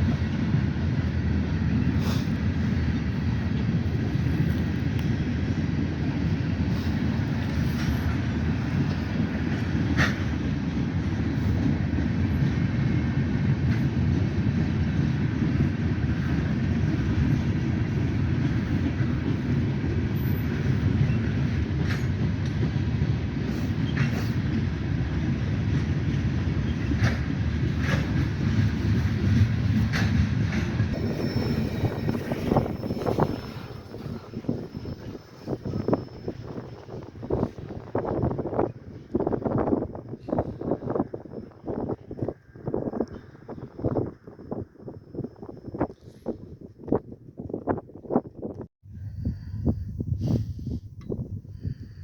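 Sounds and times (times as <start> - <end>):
freight train rumbling on rails: 0.0 - 52.0.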